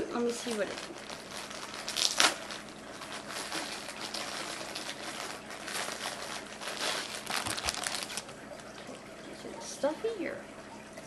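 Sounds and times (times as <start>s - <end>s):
plastic wrapper crinkling: 0.1s - 9.0s.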